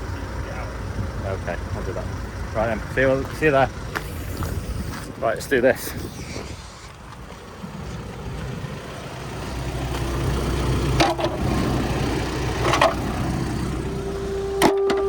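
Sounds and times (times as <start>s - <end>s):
van engine running: 0.0s - 15.0s.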